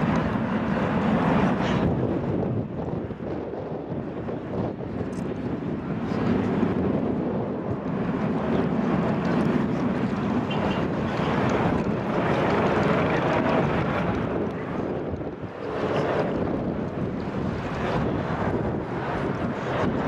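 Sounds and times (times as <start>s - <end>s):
jet plane passing overhead: 0.0s - 20.0s.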